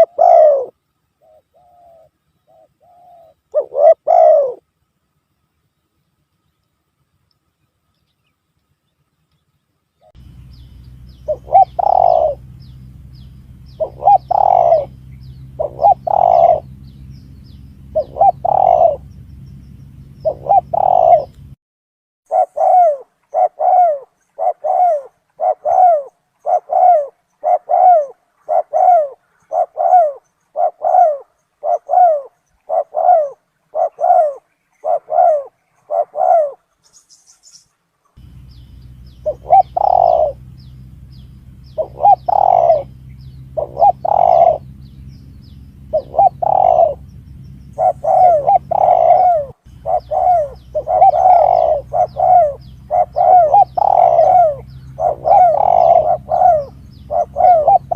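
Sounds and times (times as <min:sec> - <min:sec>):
dove cooing: 0:00.0 - 0:04.7, 0:10.0 - 0:21.6, 0:22.3 - 0:36.7, 0:38.2 - 0:57.9
low steady hum: 0:00.0 - 0:21.6, 0:22.3 - 0:57.9.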